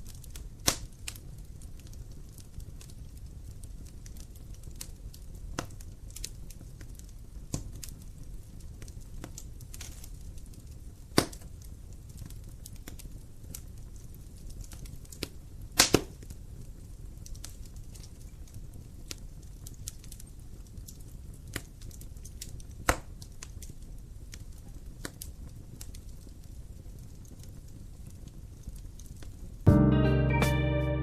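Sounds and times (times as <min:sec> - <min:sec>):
sharp pops from burning logs: 0:00.0 - 0:29.4
low rumble of flames: 0:00.0 - 0:29.7
wood fire crackling: 0:00.0 - 0:29.7.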